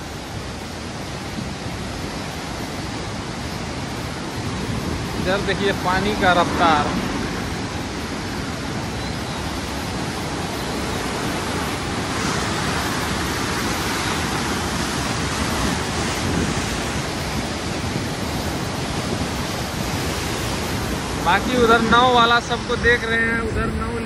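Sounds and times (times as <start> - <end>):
river rushing through sluice gates: 0.0 - 24.0.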